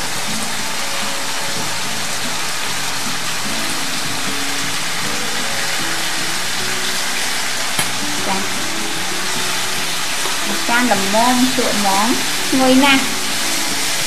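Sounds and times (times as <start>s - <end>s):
background music: 0.0s - 14.0s
vegetables sizzling in frying pan: 0.0s - 14.0s.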